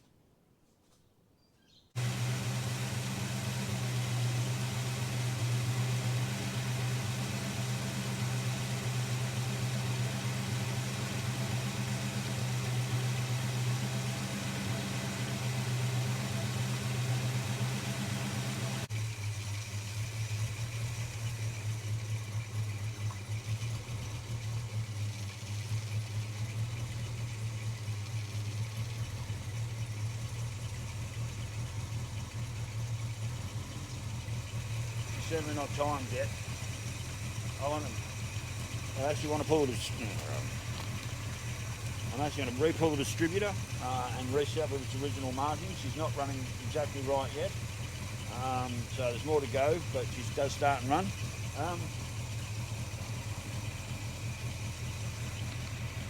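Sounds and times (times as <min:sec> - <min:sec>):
car engine idling: 0:02.0 - 0:56.0.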